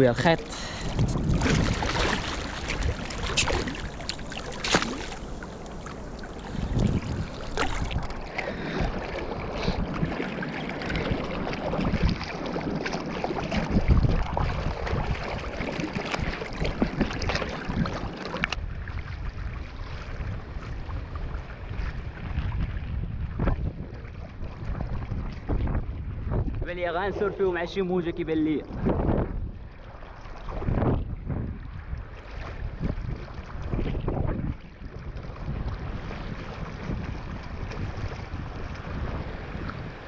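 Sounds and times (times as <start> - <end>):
water splashing and sloshing: 0.0 - 40.0
wind buffeting microphone: 0.0 - 40.0.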